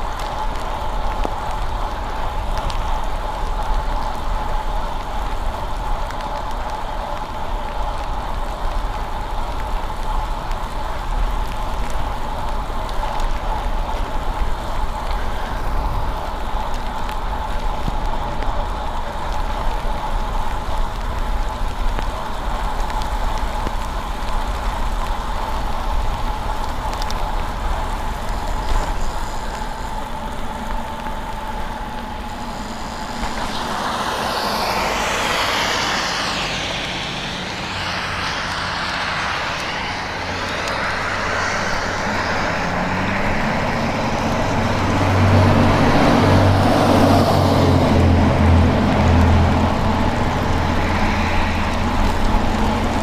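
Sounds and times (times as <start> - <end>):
car tyres hissing on wet road: 0.0 - 53.0
wet road noise: 0.0 - 53.0
wind rumble: 0.0 - 53.0.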